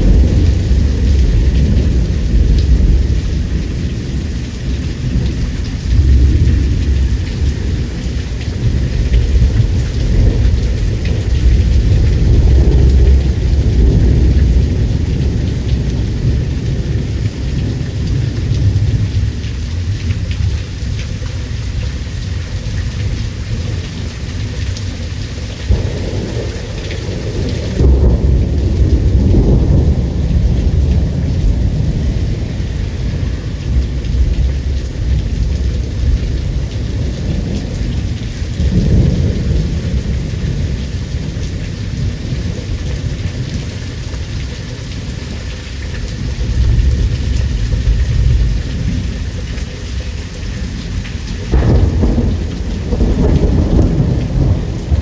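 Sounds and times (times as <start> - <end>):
rumbling thunder: 0.0 - 20.6, 25.6 - 43.6, 46.2 - 49.5, 50.6 - 55.0
rain hissing: 0.0 - 55.0.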